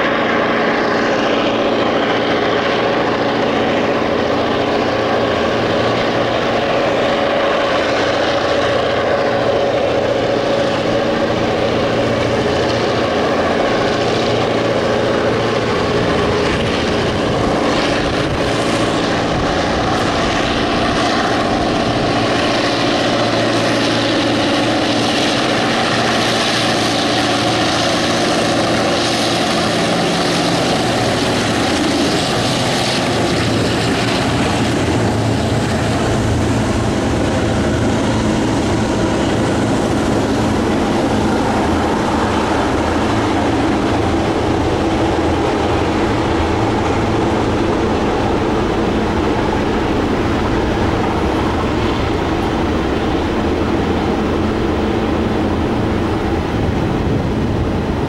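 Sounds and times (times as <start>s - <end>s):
diesel locomotives droning: 0.0s - 58.0s.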